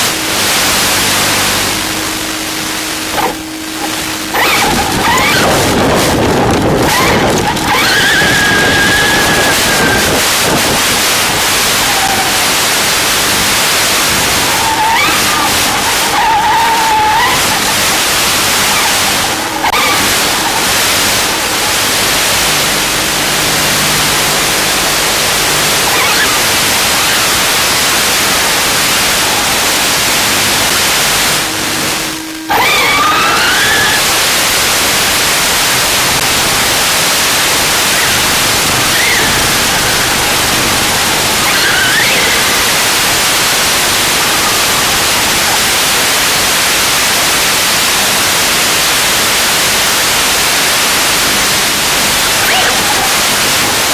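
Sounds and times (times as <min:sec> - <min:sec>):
electric motor whine: 0:00.0 - 0:53.9
loud steady hiss: 0:00.0 - 0:53.9.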